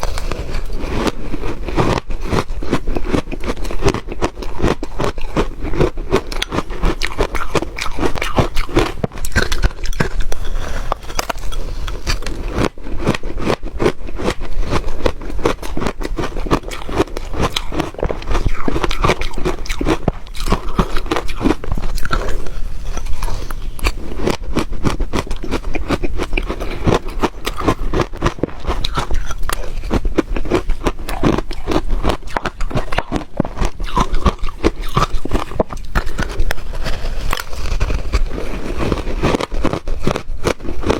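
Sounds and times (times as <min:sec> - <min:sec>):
ice crunching while chewed: 0:00.0 - 0:40.9.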